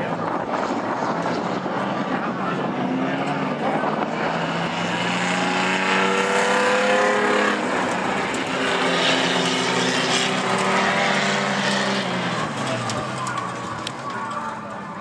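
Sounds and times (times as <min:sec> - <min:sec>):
race car engines running hard: 0:00.0 - 0:15.0.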